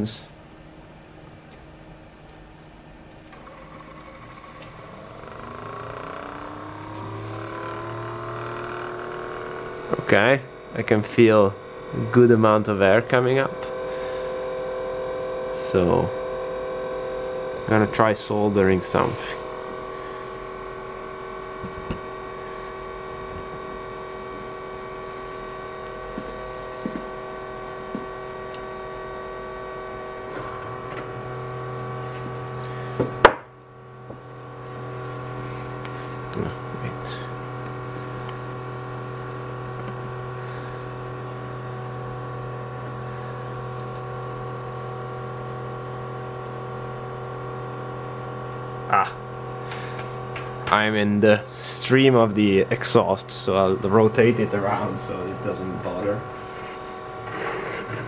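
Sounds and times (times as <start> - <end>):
electric motor pump whine: 0.0 - 58.0.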